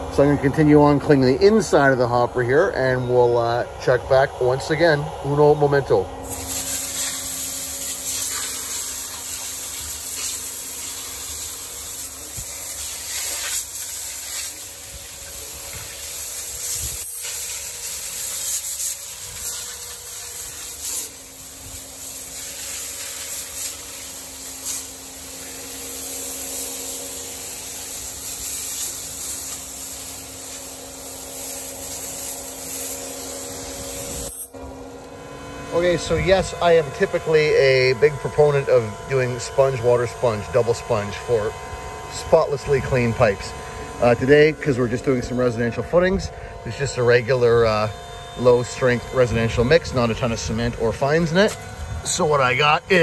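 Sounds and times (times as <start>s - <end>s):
faint hum: 0.0s - 53.0s
pressure washer spray hissing: 6.2s - 53.0s.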